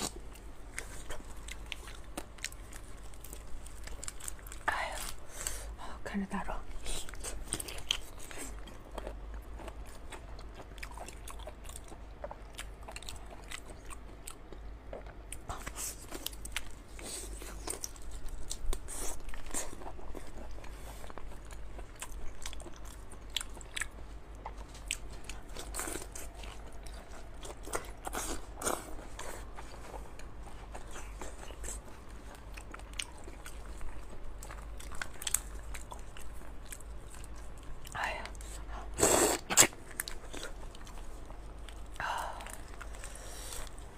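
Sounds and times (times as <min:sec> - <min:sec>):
person chewing crunchy prawns: 0:00.0 - 0:05.8, 0:06.7 - 0:43.9.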